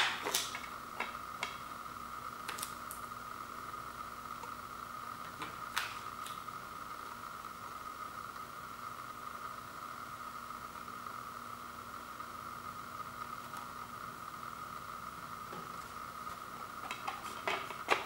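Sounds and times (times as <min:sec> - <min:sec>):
mid-pitched hum: 0:00.0 - 0:18.0.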